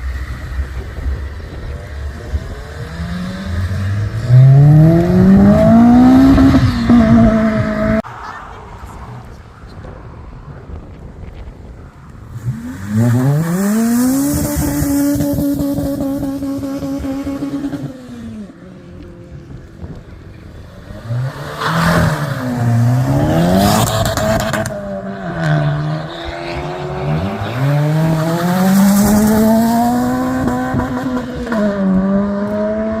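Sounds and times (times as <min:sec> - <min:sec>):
car engines revving hard: 0:00.0 - 0:08.1, 0:12.2 - 0:33.0.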